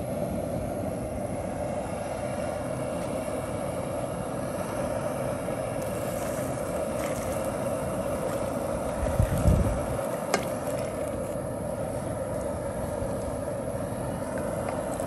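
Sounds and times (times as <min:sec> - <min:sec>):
steady hum: 0:00.0 - 0:15.0
broth pouring into pot: 0:01.0 - 0:15.0.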